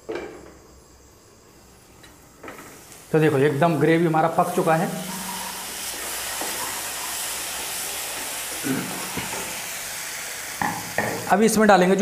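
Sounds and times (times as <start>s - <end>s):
gravy sizzling in a pan: 1.6s - 12.0s.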